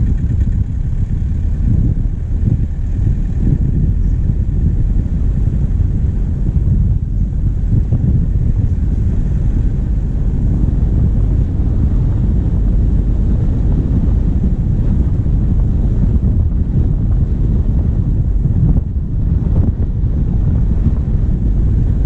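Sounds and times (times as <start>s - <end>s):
diesel engine running: 0.0s - 22.0s
wind buffeting microphone: 0.0s - 22.0s.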